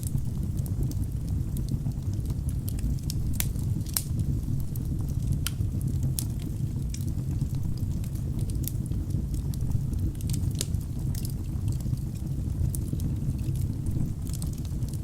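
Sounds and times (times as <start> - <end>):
burning logs crackling and popping: 0.0 - 15.0
fire flames rumbling: 0.0 - 15.0.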